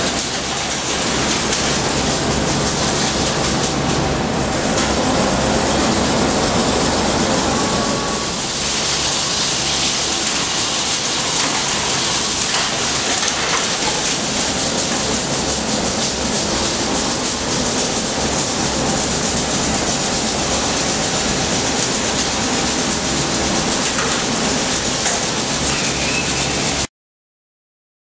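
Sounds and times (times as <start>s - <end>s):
coolant spray hiss: 0.0s - 26.9s.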